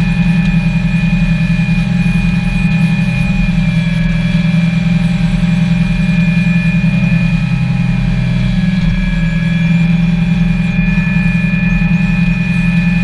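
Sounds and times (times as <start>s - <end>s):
boat engine droning: 0.0s - 13.0s
faint high whine: 0.0s - 13.0s.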